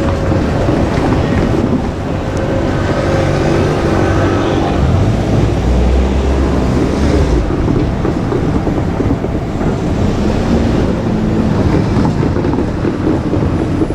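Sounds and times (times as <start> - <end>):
heavy low rumble: 0.0 - 13.9
train wheels rushing on rails: 0.0 - 13.9.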